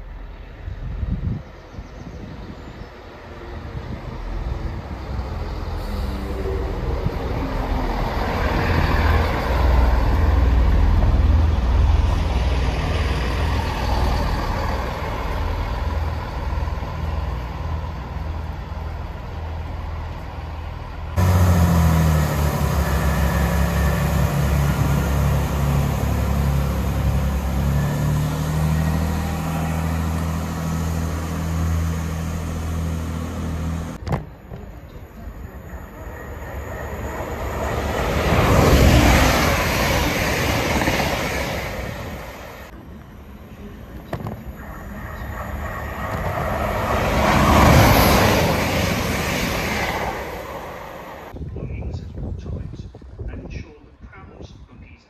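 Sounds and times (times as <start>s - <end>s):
train diesel engines running: 2.2s - 51.4s.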